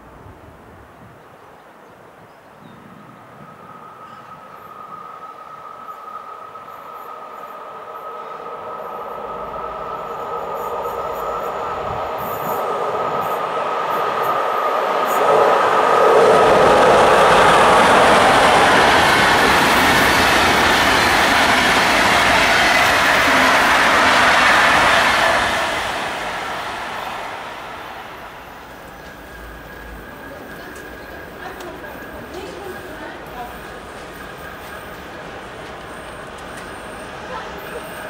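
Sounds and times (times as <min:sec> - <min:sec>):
electric locomotive whine: 0:00.0 - 0:38.0
train wheels rolling past: 0:02.4 - 0:38.0.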